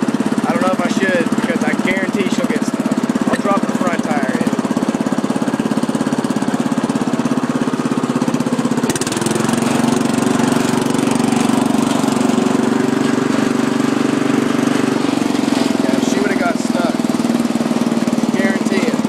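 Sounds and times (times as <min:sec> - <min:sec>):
riding lawn mower engine: 0:00.0 - 0:19.0.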